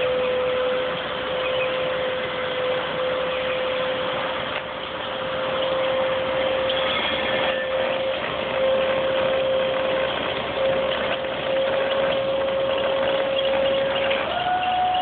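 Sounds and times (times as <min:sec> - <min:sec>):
hydraulic pump whine: 0:00.0 - 0:15.0.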